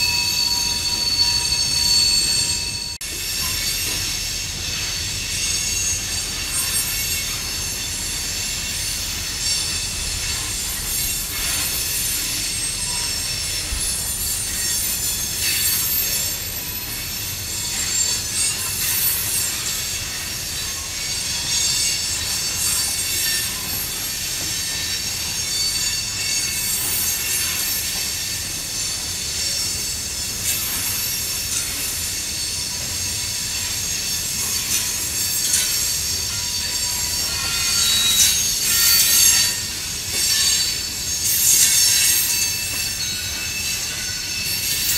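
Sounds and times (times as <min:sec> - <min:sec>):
train wheels squealing: 0:00.0 - 0:44.9
wheels rumbling on rail: 0:00.0 - 0:44.9.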